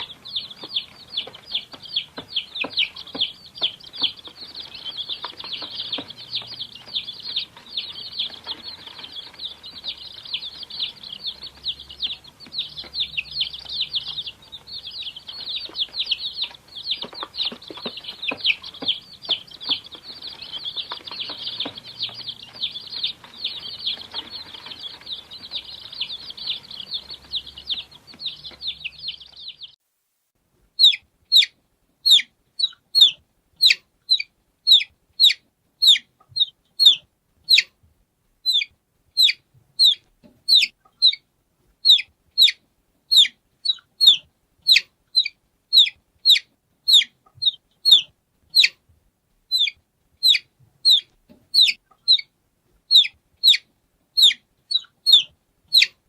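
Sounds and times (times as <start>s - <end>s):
baby chickens peeping: 0.0s - 29.8s, 30.7s - 37.8s, 38.4s - 48.9s, 49.5s - 56.0s.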